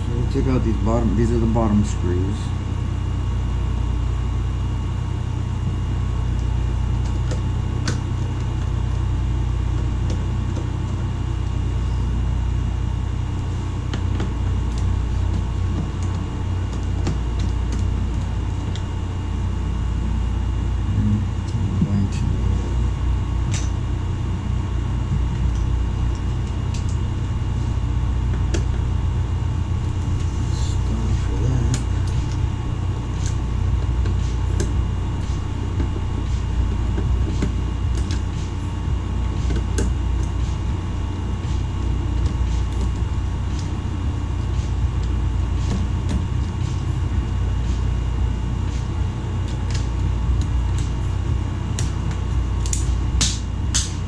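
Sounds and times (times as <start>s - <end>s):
faint steady whine: 0.0s - 54.0s
low machine hum: 0.0s - 54.0s.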